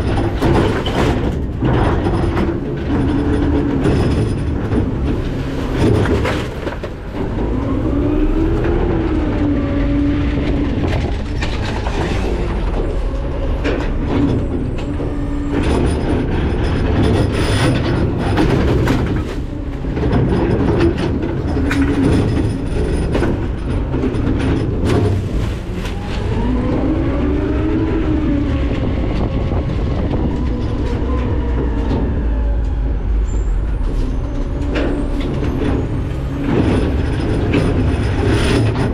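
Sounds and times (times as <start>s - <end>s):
trash cracking and clanking: 0.0s - 27.9s, 33.7s - 38.9s
diesel engine and hydraulic whine: 0.0s - 38.9s.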